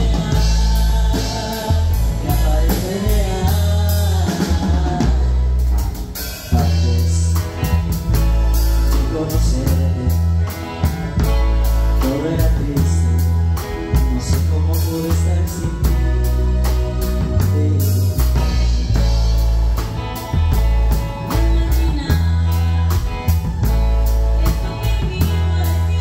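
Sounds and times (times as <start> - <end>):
drum kit: 0.0 - 26.0
electric bass: 0.0 - 26.0
electric guitar: 0.0 - 26.0
keyboards: 0.0 - 26.0.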